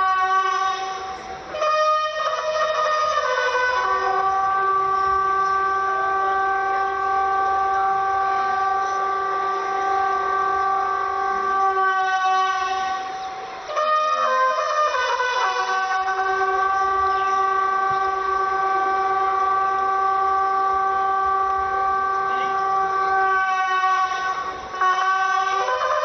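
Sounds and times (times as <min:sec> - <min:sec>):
bugle call: 0:00.0 - 0:26.0.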